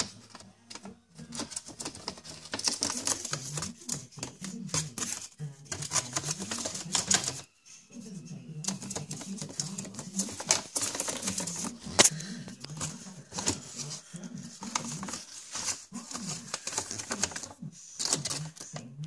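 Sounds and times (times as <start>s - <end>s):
bird claws scratching on paper: 0.0s - 7.5s, 8.6s - 19.0s
paper crackling: 0.0s - 7.5s, 8.6s - 19.0s.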